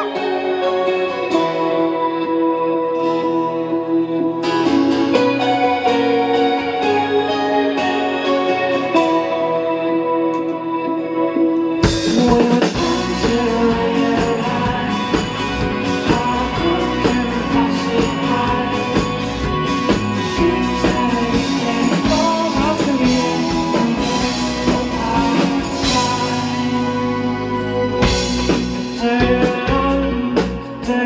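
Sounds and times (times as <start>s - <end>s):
held keyboard chord: 0.0s - 31.0s
rock band playing: 0.0s - 31.0s.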